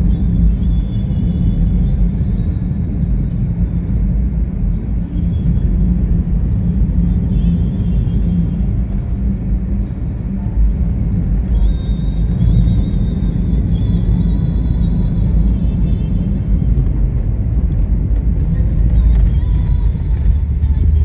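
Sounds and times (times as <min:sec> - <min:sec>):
car road rumble: 0:00.0 - 0:21.0
song on car stereo: 0:00.0 - 0:21.0.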